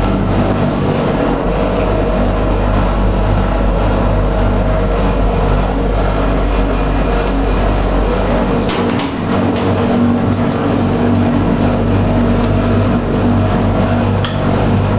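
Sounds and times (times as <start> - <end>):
laundry machinery running: 0.0 - 14.9.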